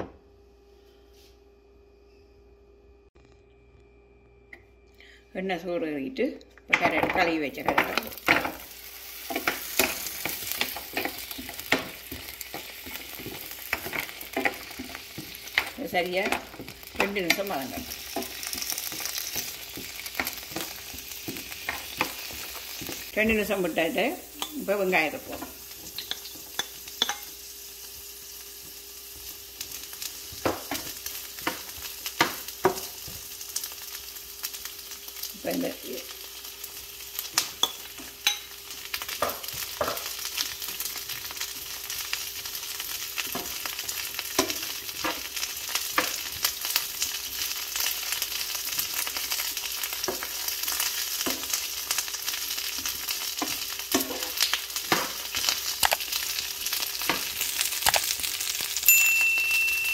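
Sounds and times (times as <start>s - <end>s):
vegetables sizzling in oil: 6.8s - 59.9s.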